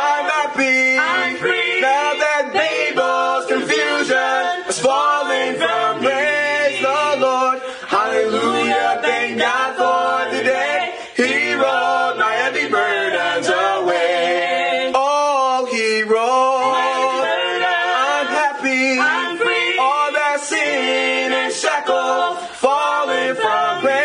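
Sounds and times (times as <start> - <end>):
group singing a cappella gospel: 0.0 - 24.0.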